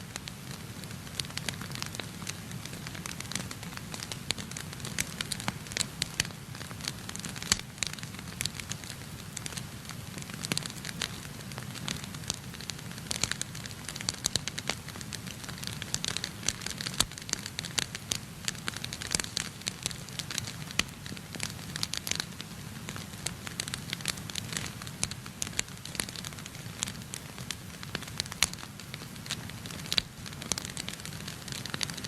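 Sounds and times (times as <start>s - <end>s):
wood fire crackling and popping: 0.1s - 32.0s.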